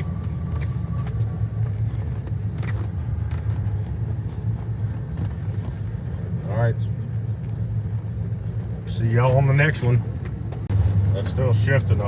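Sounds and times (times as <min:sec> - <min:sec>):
pickup engine and road rumble: 0:00.0 - 0:12.0.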